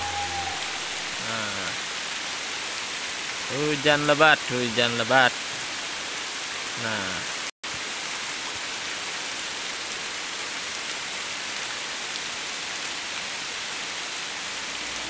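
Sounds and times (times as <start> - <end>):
heavy rain falling on river: 0.0 - 15.0.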